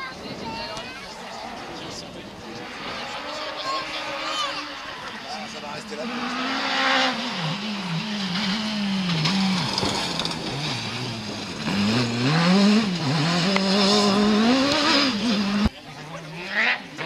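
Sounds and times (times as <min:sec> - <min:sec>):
rally car engine revving: 0:01.2 - 0:17.0.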